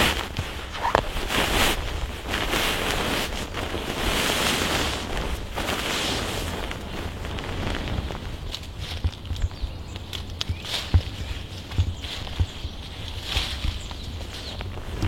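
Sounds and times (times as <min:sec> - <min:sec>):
wind gusting over microphone: 0:00.0 - 0:15.0.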